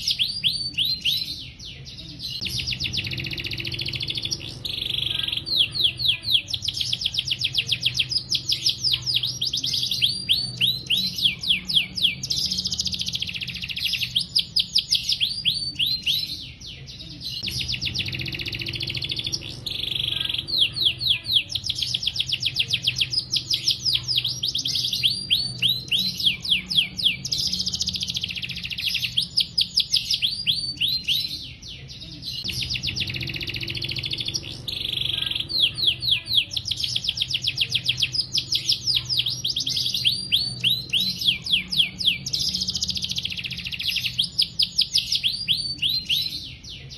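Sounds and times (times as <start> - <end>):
canary singing rapid trills: 0.0 - 46.9.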